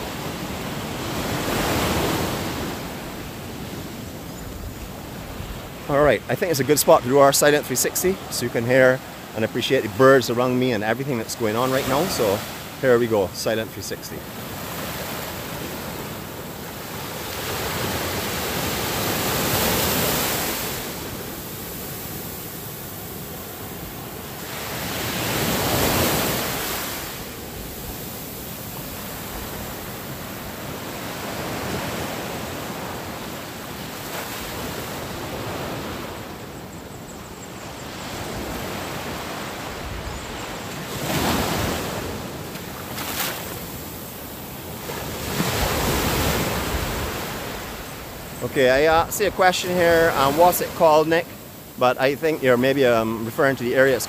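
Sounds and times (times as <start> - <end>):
waves breaking on sandy beach: 0.0 - 54.0.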